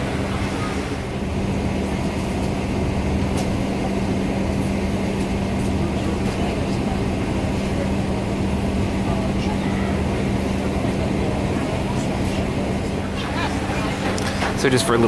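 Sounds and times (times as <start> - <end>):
low cabin drone: 0.0 - 15.0
ventilation air rushing: 0.0 - 15.0.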